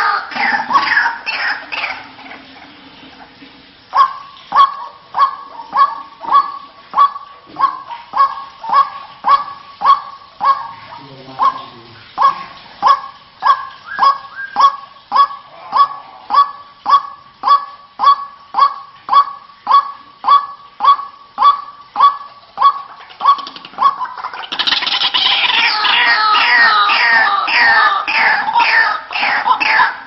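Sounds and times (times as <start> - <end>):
waterhen calling: 0.0 - 30.0.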